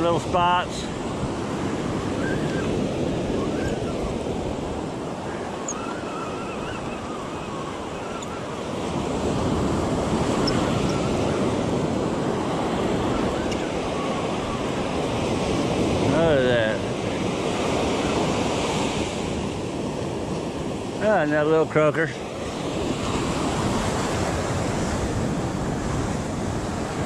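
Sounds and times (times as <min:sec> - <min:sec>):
wind buffeting microphone: 0:00.0 - 0:21.2, 0:22.2 - 0:27.0
ocean surf breaking: 0:00.0 - 0:27.0.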